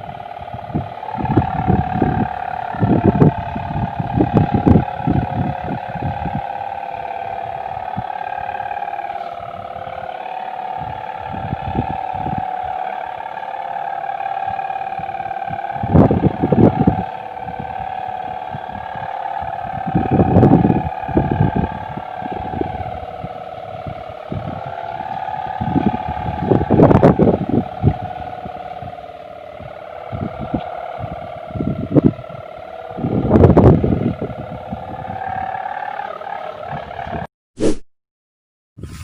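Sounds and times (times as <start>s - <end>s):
low rumbling bursts: 0.0s - 35.7s
kite hummers droning: 0.0s - 37.7s.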